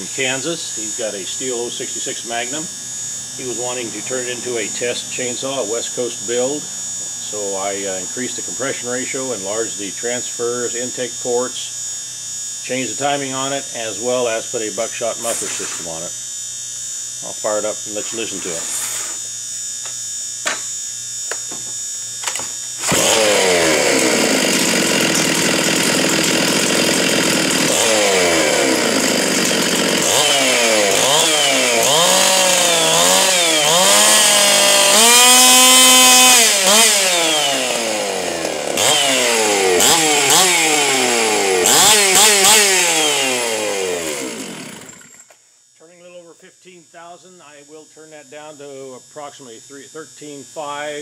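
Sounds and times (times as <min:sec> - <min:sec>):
chainsaw revving: 0:00.0 - 0:16.5, 0:17.2 - 0:19.9, 0:20.5 - 0:45.4.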